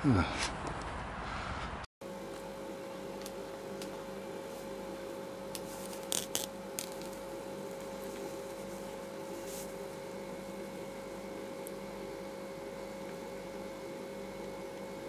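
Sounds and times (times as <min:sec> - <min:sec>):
steady hum: 0:02.0 - 0:15.0.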